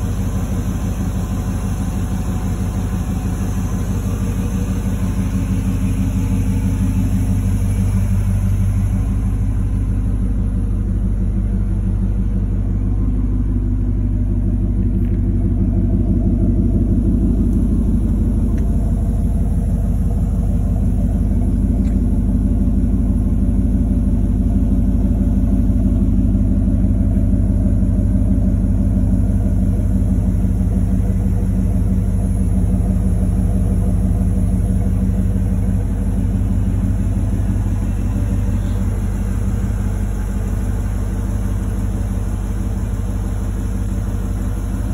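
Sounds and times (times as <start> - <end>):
pickup engine idling: 0.0 - 44.9.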